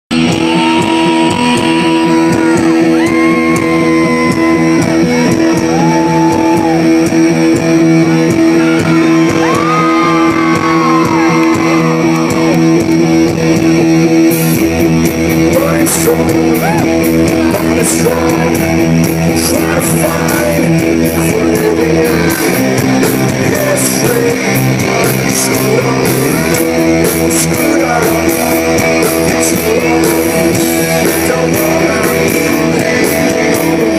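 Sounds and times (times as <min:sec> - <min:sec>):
drums and cymbals: 0:00.1 - 0:33.9
electric guitar sliding notes: 0:00.1 - 0:33.9
steady bass: 0:00.1 - 0:33.9.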